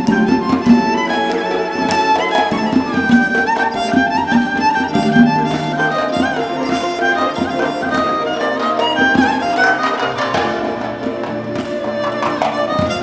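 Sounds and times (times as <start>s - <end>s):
orchestral music with bowed strings: 0.0s - 13.0s.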